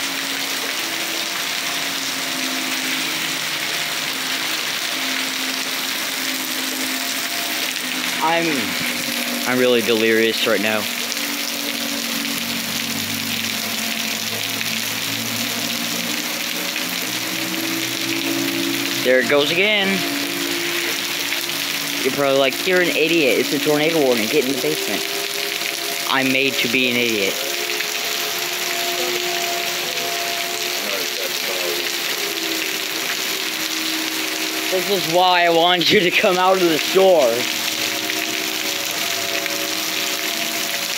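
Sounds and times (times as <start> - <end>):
heavy rain pouring: 0.0 - 40.9
tornado warning sirens: 0.0 - 40.9.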